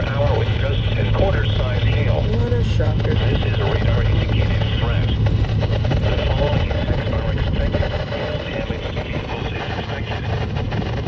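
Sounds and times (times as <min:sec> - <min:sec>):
faint broadcast voice: 0:00.0 - 0:10.6
low hum: 0:00.0 - 0:11.0
radio static: 0:00.0 - 0:11.0.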